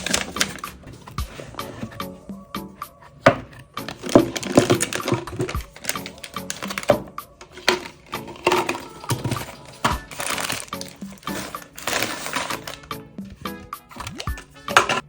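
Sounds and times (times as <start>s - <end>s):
plastic packaging crinkling: 0.0s - 2.0s, 3.8s - 15.0s
background music: 0.0s - 15.0s.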